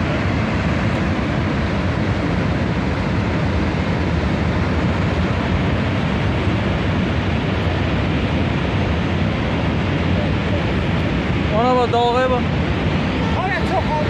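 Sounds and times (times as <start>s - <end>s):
flooded river rushing: 0.0s - 14.0s.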